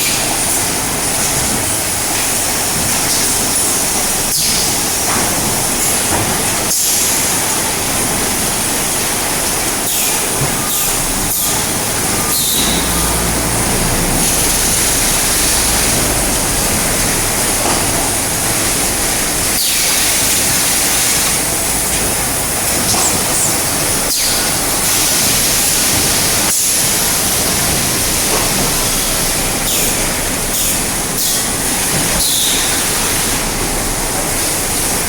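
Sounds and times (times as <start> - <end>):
packing machinery running: 0.0 - 35.0.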